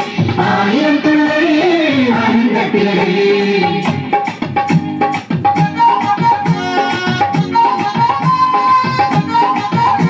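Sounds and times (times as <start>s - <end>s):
high held melody line: 0.0s - 10.0s
steady drum beat: 0.0s - 10.0s.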